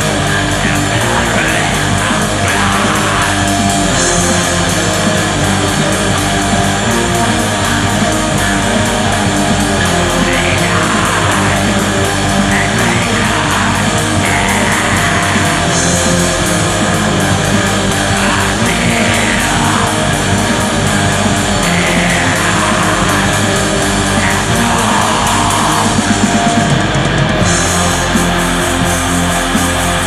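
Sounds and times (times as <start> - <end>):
black metal song: 0.0 - 30.0.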